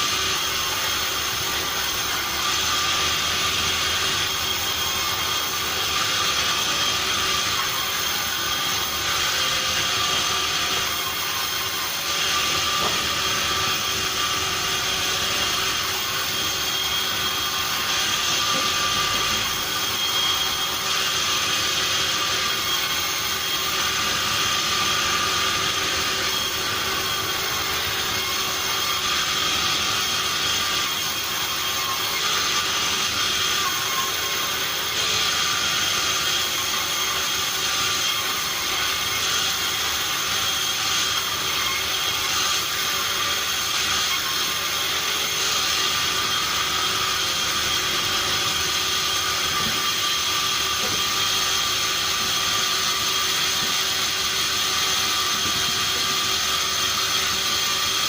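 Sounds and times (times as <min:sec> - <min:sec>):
high steady whining tones: 0:00.0 - 0:58.0
sawmill machinery running: 0:00.0 - 0:58.0.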